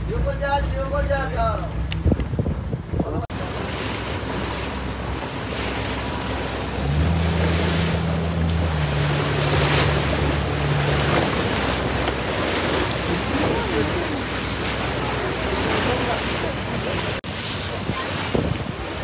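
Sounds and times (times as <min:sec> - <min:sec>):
choppy sea water: 0:00.0 - 0:19.0
low boat engine hum: 0:00.0 - 0:19.0
wind buffeting microphone: 0:01.1 - 0:03.6, 0:05.9 - 0:19.0.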